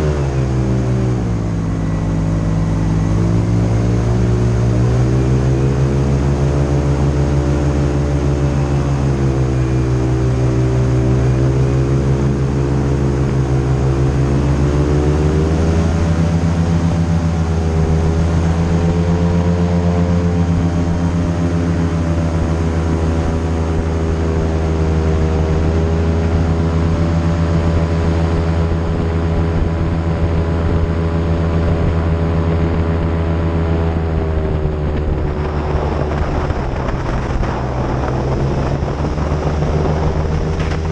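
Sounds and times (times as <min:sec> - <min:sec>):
airboat engine and propeller: 0:00.0 - 0:40.9.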